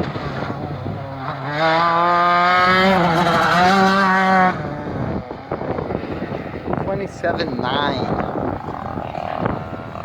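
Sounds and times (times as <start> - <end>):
kart engine revving high: 0.0 - 6.9, 8.1 - 10.0.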